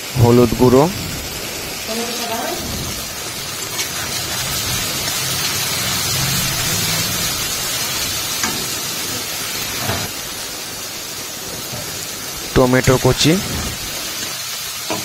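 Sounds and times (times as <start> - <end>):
masala sizzling in hot oil: 0.0 - 15.0.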